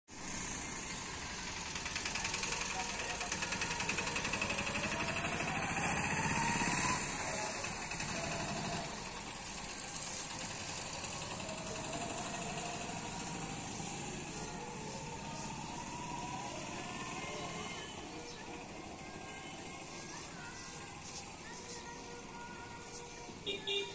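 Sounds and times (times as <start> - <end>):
engine running with whine: 0.1 - 23.9.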